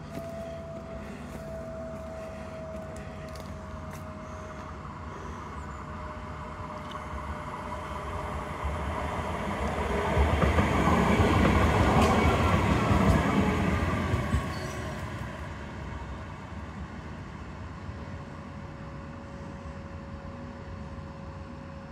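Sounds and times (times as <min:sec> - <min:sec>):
tram rumble and rail noise: 0:00.0 - 0:21.9.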